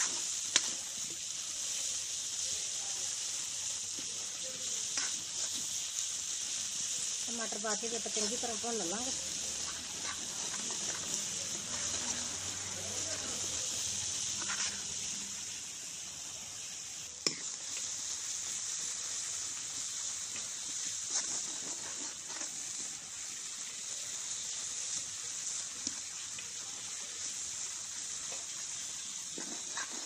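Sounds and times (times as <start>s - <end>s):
tomatoes sizzling in oil: 0.0s - 30.0s.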